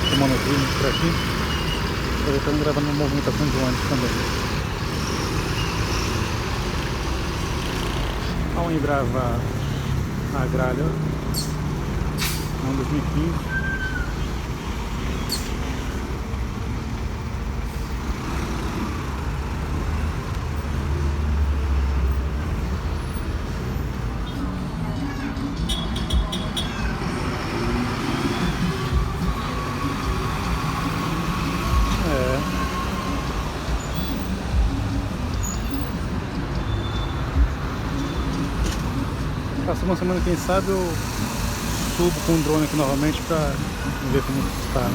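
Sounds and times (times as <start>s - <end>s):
traffic engine rumble and road noise: 0.0s - 44.9s.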